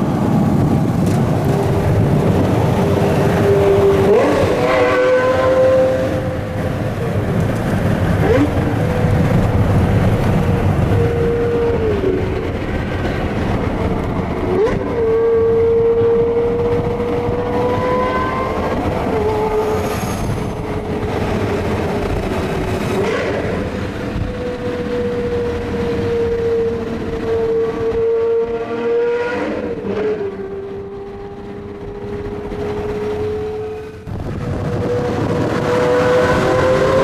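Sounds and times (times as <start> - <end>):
car engine drone: 0.0 - 37.0
road noise inside car: 0.0 - 37.0.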